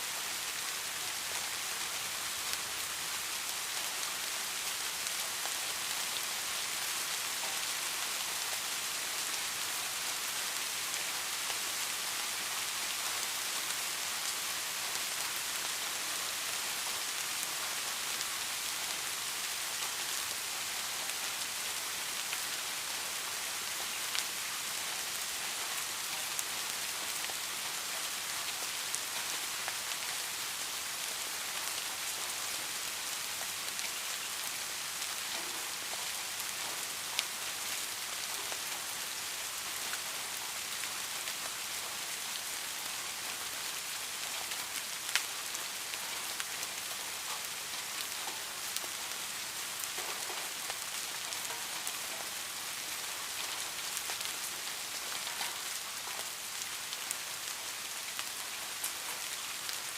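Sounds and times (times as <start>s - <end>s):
steady rain hiss: 0.0s - 59.9s
raindrops striking close by: 0.3s - 59.9s.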